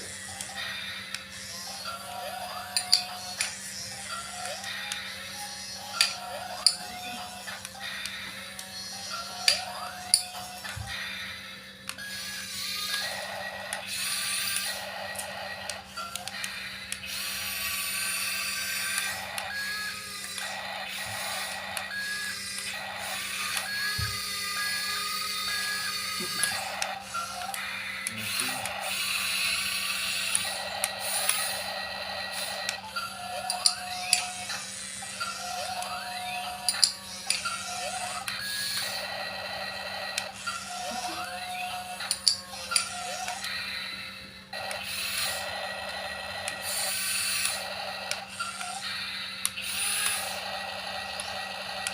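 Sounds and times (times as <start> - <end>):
small motor whirring: 0.0 - 51.9
toy electronic tones: 0.0 - 51.9.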